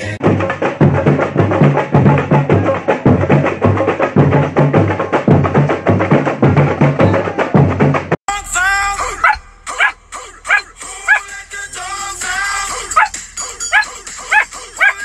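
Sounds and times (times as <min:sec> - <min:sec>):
music with fast percussive beat: 0:00.0 - 0:08.2, 0:10.8 - 0:15.0.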